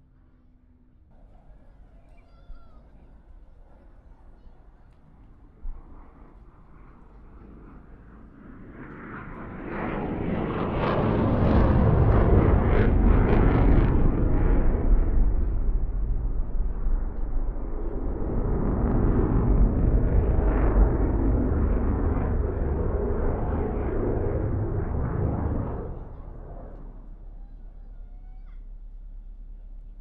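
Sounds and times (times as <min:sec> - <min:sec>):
distant jet rumbling: 0:01.1 - 0:30.0.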